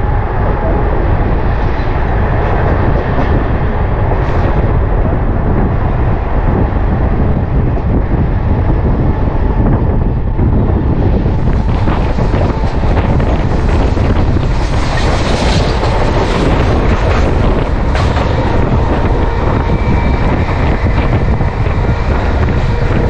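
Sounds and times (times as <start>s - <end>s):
train wheels rumbling on rails: 0.0s - 23.0s
wind on microphone: 0.0s - 23.0s.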